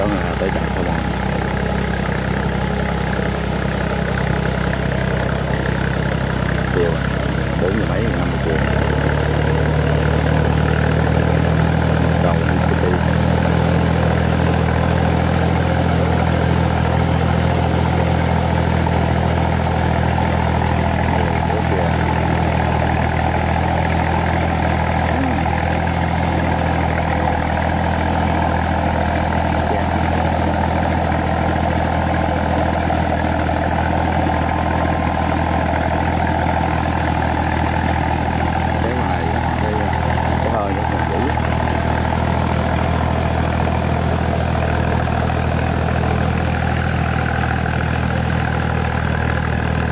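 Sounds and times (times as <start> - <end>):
diesel tractor engine running: 0.0 - 49.9.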